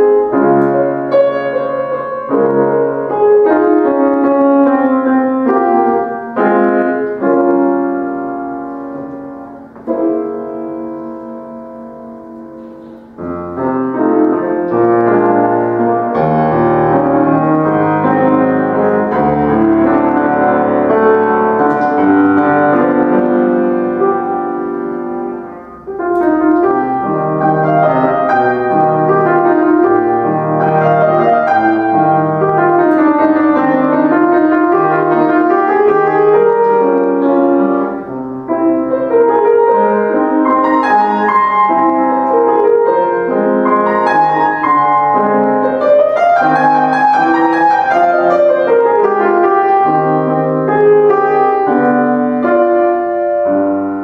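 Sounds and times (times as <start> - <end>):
solo piano playing: 0.0 - 54.0.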